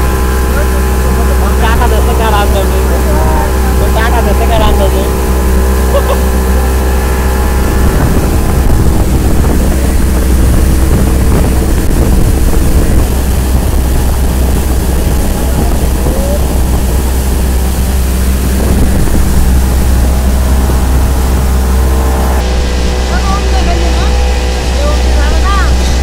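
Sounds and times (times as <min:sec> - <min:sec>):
outboard motor droning: 0:00.0 - 0:26.0
wind on microphone: 0:00.0 - 0:26.0.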